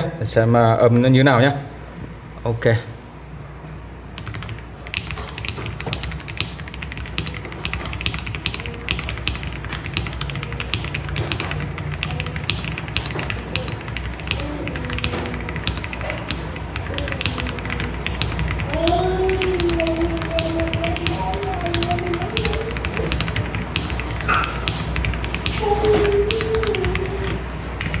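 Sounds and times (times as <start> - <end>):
mechanical keyboard key clacks: 4.2 - 28.0.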